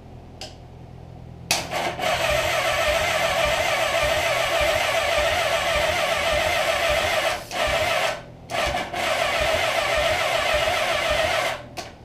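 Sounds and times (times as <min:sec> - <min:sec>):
starter motor cranking engine: 0:01.5 - 0:11.7.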